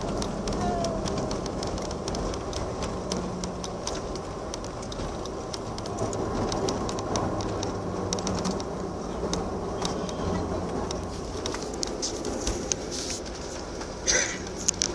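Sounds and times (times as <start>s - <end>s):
aircraft engine and rolling rumble: 0.0s - 14.9s
light clicks and rattles: 0.0s - 14.9s.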